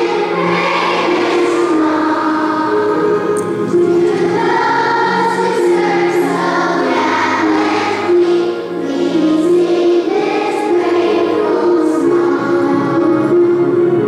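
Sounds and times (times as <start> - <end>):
choir singing long notes: 0.0 - 14.0.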